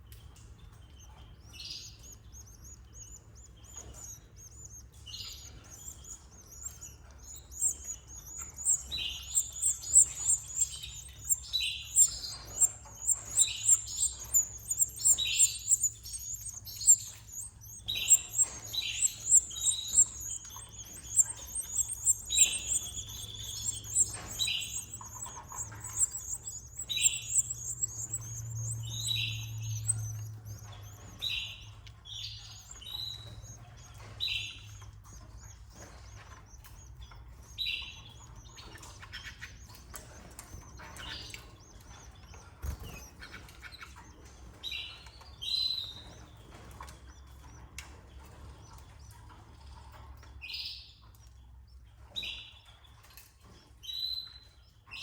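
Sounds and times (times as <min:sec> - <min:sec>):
canaries twittering: 0:00.0 - 0:55.0.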